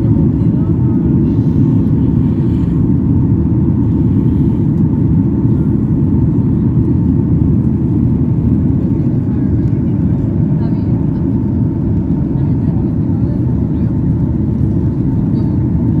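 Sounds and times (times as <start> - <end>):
jet engines roaring in cabin: 0.0 - 16.0.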